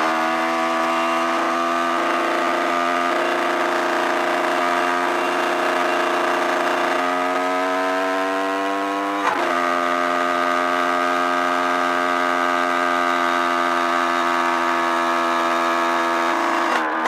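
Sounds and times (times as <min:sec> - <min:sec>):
dirt bike engine accelerating: 0:00.0 - 0:17.0.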